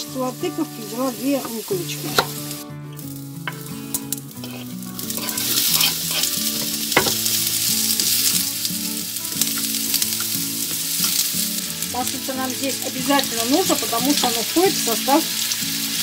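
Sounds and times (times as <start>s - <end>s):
onion sizzling in hot oil: 0.0s - 16.0s.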